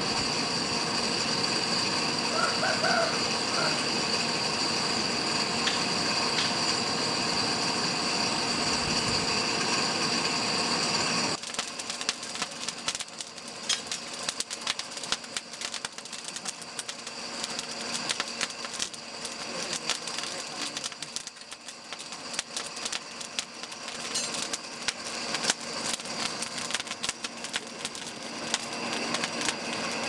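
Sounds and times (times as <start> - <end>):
charcoal crackling in forge: 0.0 - 30.0
motor whir with high whine: 0.0 - 30.0.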